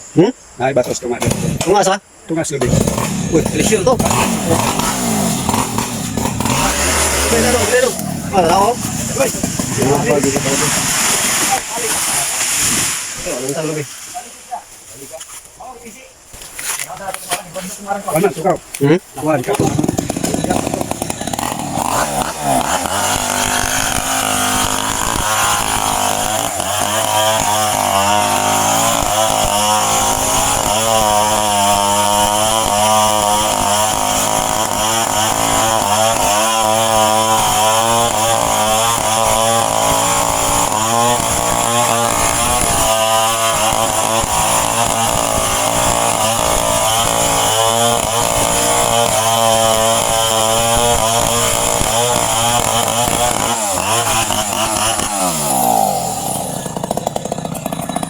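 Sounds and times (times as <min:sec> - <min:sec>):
chainsaw cutting tree trunk: 0:00.8 - 0:02.0, 0:02.6 - 0:13.8, 0:16.4 - 0:58.0.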